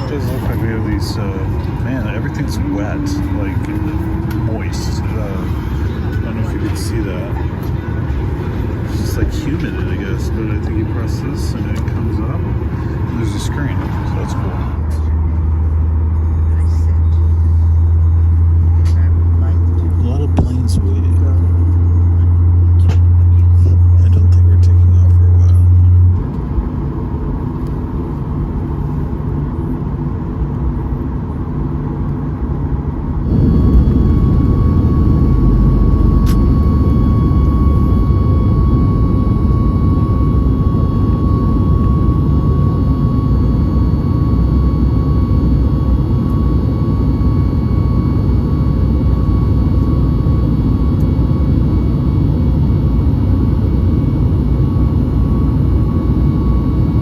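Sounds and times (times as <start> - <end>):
faint steady whine: 0.0 - 57.0
jet engine cabin rumble: 0.0 - 57.0.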